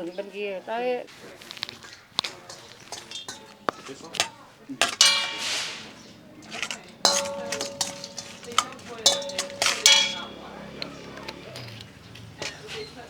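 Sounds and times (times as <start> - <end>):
metal utensil stirring in pan: 1.2 - 13.0
ringing clanks: 1.5 - 13.0.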